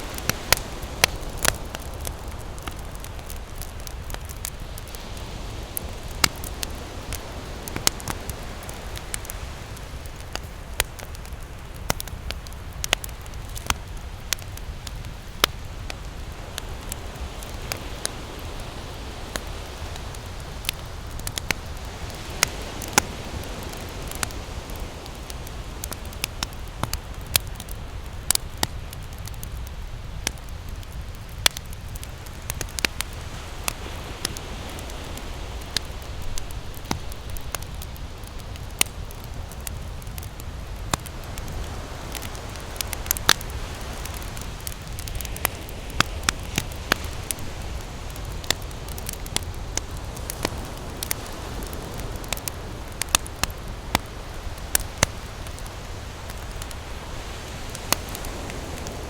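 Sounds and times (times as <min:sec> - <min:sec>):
campfire crackling: 0:00.0 - 0:59.0
ocean surf: 0:00.0 - 0:59.0.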